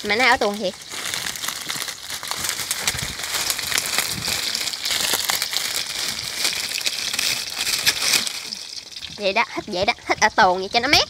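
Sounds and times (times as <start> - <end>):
hot oil sizzling and popping: 0.0 - 11.0.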